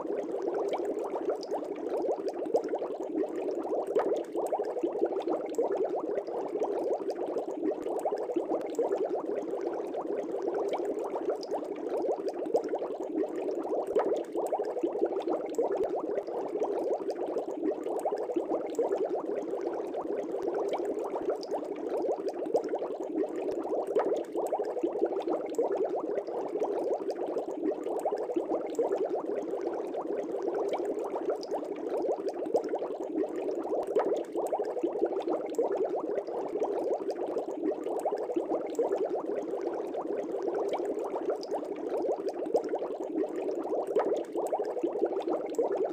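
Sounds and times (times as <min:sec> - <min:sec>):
air bubbles in fish tank: 0:00.0 - 0:45.9.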